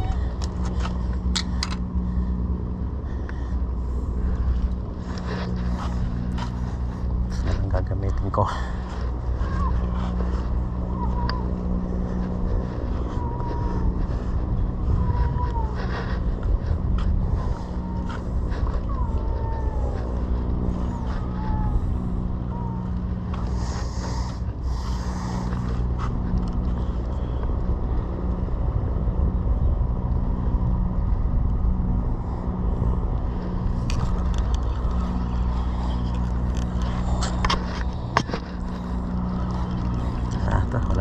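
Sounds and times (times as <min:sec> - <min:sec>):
low engine drone: 0:00.0 - 0:41.0.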